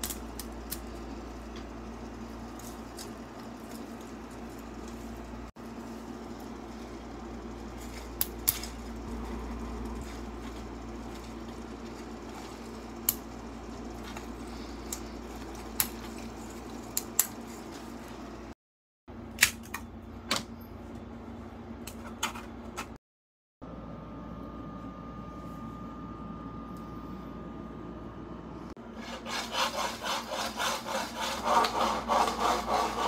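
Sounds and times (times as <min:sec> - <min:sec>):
steady machine hum: 0:00.0 - 0:23.0, 0:23.6 - 0:33.0.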